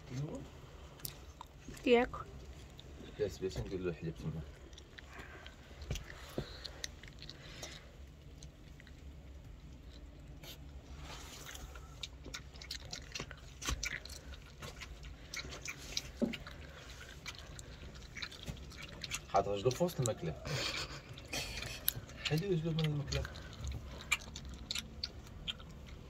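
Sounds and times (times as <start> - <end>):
puppy lapping and chewing: 1.0 - 26.0.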